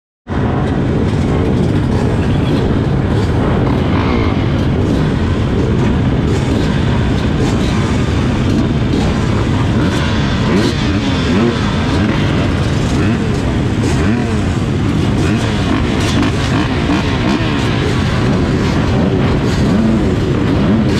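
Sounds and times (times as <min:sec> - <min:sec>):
dirt bike engines revving: 0:00.3 - 0:20.9.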